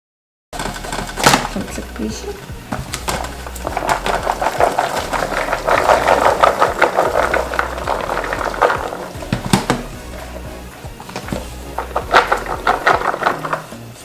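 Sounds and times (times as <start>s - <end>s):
beans rattling into colander: 0.6s - 14.0s.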